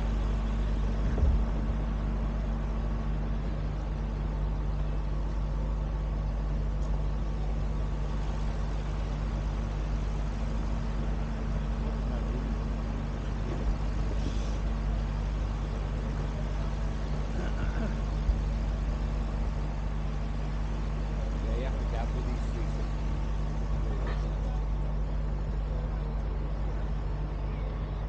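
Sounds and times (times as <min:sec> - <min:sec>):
engine droning: 0:00.0 - 0:28.0.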